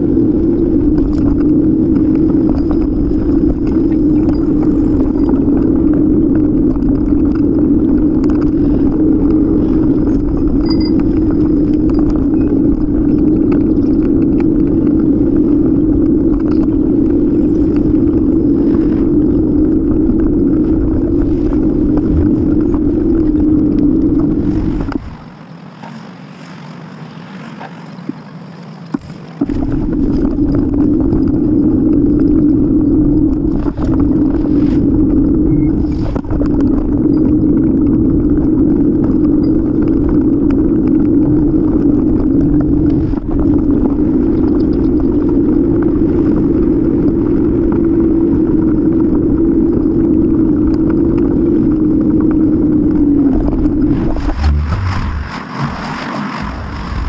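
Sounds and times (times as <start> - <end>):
wind buffeting microphone: 0.0 - 25.4, 27.2 - 57.0
tyre and road noise: 0.0 - 57.0.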